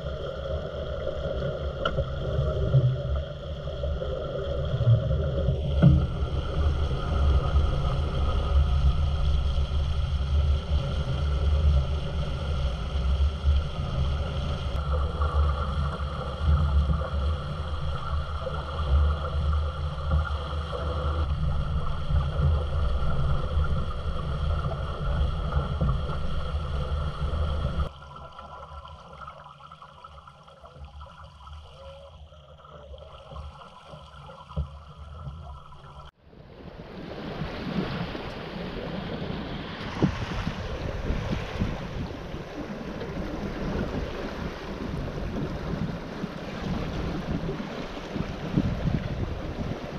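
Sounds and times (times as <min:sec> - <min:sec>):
wind rumbling on microphone: 0:00.0 - 0:27.9, 0:35.4 - 0:49.9
water washing along boat hull: 0:00.0 - 0:36.2, 0:36.8 - 0:49.9.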